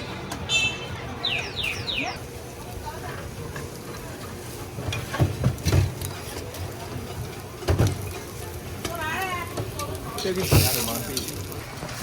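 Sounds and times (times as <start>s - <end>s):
busy street market din: 0.0s - 12.0s.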